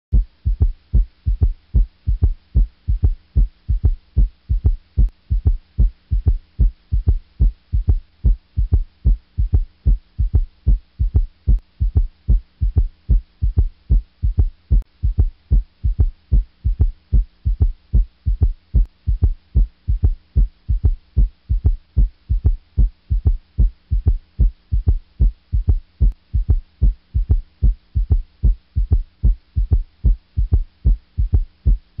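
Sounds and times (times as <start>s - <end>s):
heartbeat with gallop: 0.1s - 32.0s.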